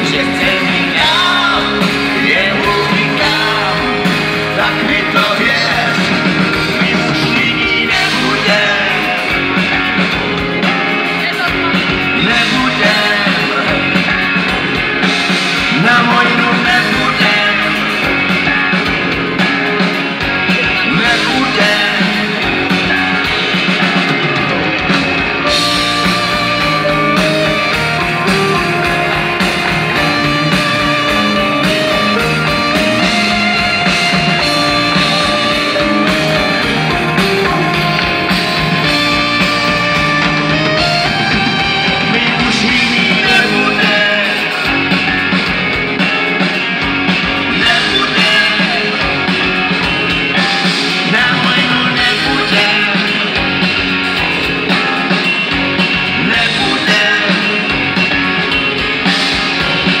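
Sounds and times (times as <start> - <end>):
man singing lead: 0.0 - 46.6, 47.3 - 60.0
bass guitar: 0.0 - 60.0
drums keeping a beat: 0.0 - 60.0
electric guitars: 0.0 - 60.0.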